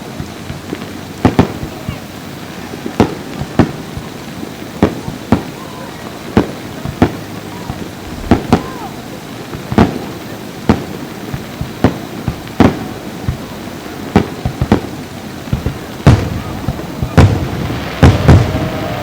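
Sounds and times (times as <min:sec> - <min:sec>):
fireworks bursting with sharp bangs: 0:00.0 - 0:19.0
heavy rumbling fireworks booms: 0:00.0 - 0:19.0.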